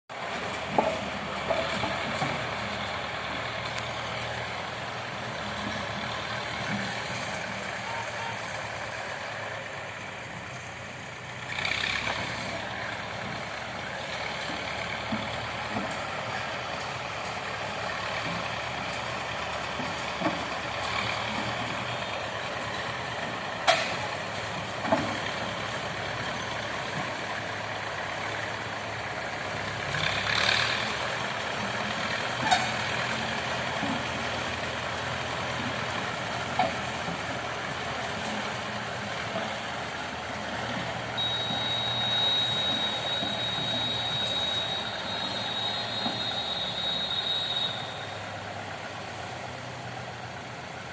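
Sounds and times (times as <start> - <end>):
diesel engine running: 0.1 - 50.9.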